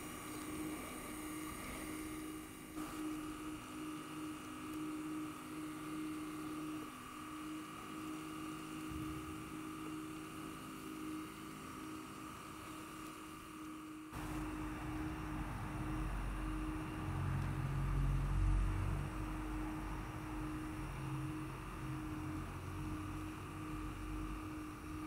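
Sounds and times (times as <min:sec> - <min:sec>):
rope running over rollers whirring: 0:00.0 - 0:25.0.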